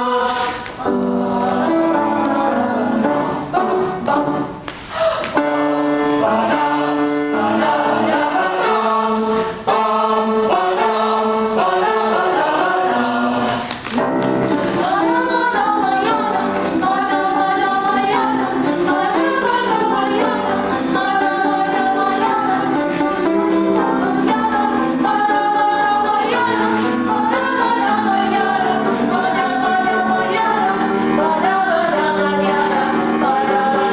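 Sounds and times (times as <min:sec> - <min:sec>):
choir singing: 0:00.0 - 0:04.6, 0:05.7 - 0:33.9.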